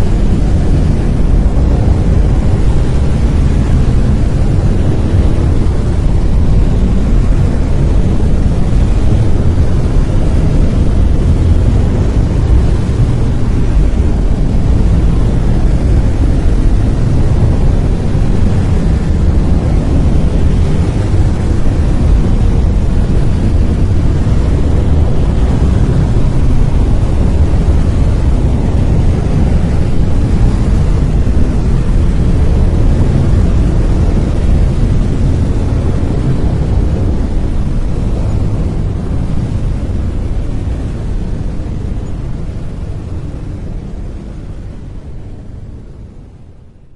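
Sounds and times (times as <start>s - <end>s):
brown noise: 0.0s - 46.9s.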